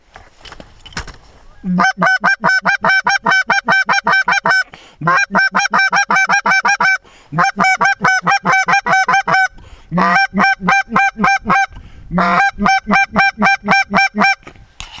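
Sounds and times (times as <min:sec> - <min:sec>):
goose call honks: 0:01.5 - 0:14.5.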